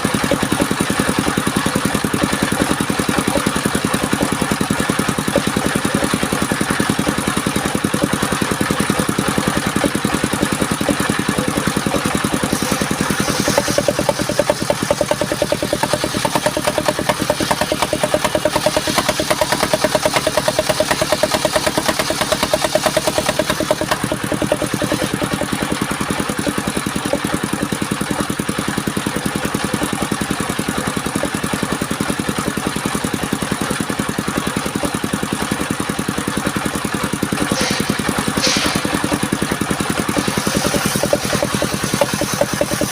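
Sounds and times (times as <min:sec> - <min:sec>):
sawmill engine throbbing: 0:00.0 - 0:42.9.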